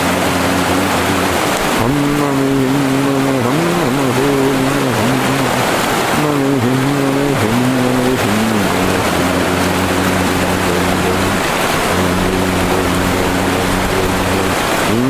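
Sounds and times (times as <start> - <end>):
boat motor running: 0.0 - 15.0
river water rushing past hull: 0.0 - 15.0.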